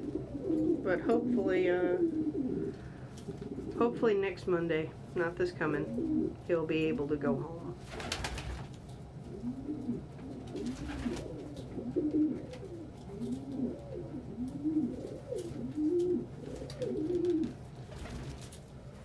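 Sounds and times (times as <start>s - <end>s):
pigeons cooing: 0.0s - 4.0s, 5.6s - 6.5s, 7.8s - 19.0s.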